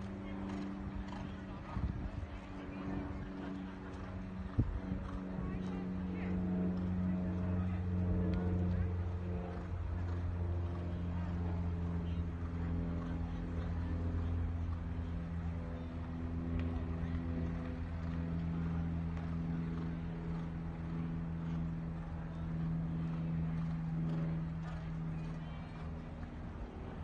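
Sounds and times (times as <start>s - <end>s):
engine humming steadily: 0.0s - 27.0s.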